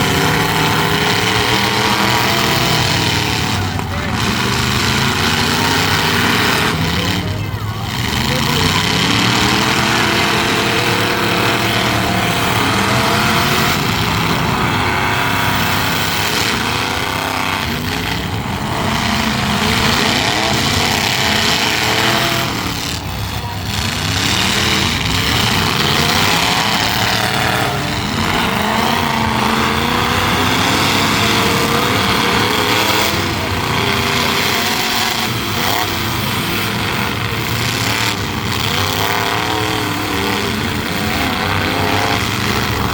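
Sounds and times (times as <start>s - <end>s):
truck engines revving hard: 0.0s - 42.9s.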